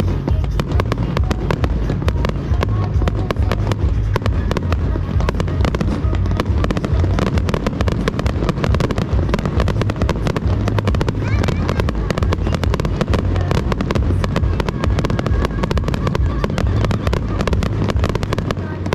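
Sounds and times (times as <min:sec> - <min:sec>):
deep rumble: 0:00.0 - 0:18.9.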